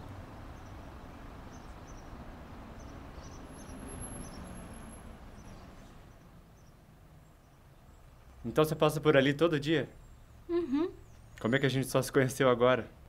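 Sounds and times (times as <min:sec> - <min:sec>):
low steady street hiss: 0:00.0 - 0:13.0.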